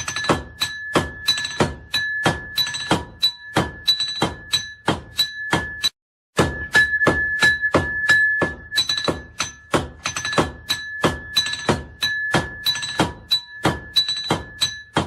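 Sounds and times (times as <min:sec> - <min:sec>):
hammer striking iron on anvil: 0:00.0 - 0:15.0.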